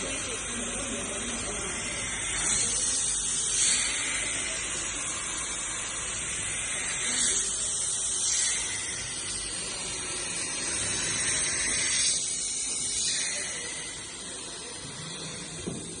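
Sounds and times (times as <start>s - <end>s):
grinding machine hissing: 0.0s - 16.0s.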